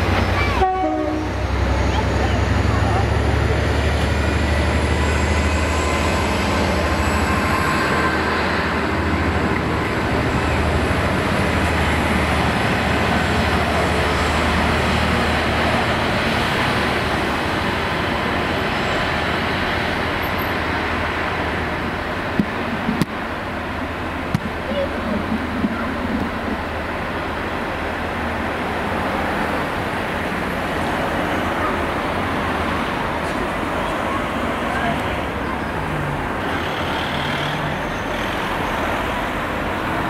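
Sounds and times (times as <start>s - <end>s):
diesel locomotive drone: 0.0s - 40.0s
train coaches rumbling on track: 0.0s - 40.0s.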